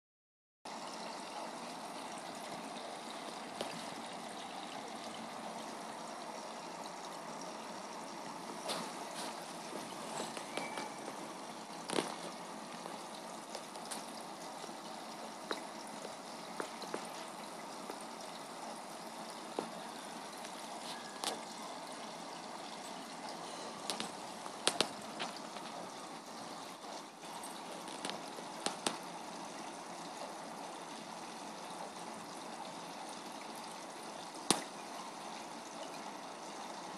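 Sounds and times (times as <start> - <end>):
trickle of falling water: 0.7 - 36.9.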